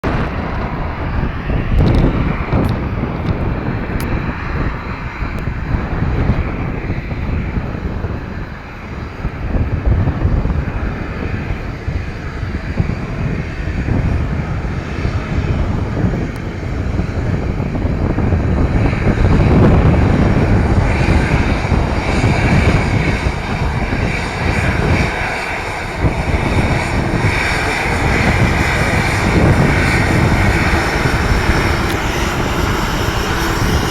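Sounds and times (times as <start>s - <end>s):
aircraft engines droning: 0.0s - 33.9s
steady whine: 0.0s - 33.9s
wind buffeting microphone: 0.0s - 33.9s.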